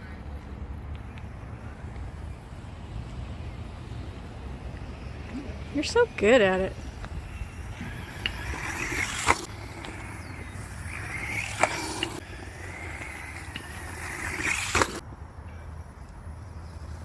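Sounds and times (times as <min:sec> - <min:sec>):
tyres and drivetrain rattling: 0:00.0 - 0:15.6
rc truck motor whine: 0:00.0 - 0:17.0.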